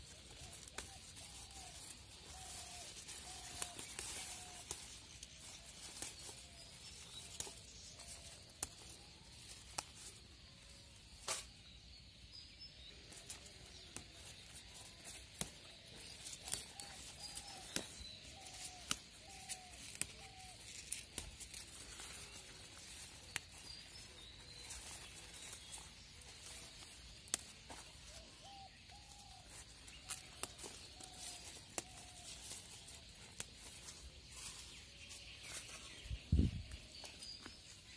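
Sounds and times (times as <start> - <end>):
leaves snapping off vines: 0.0 - 10.2, 11.1 - 11.7, 13.3 - 24.0, 24.6 - 28.2, 28.9 - 34.7
birds chirping faintly: 0.0 - 37.9.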